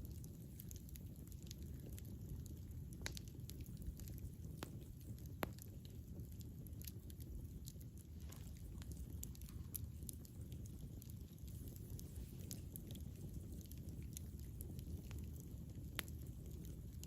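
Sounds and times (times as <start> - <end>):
burning wood crackling and popping: 0.0 - 17.0
low rumble of flames: 0.0 - 17.0.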